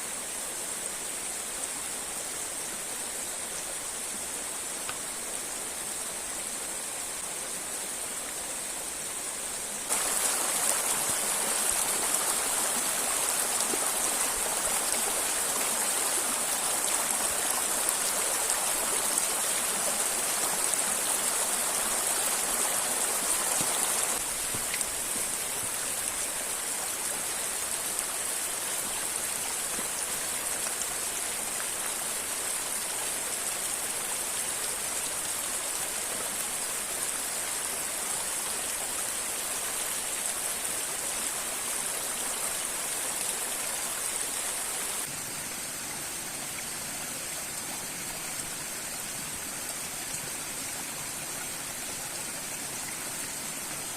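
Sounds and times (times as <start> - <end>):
river and waterfall rushing: 0.0 - 53.9.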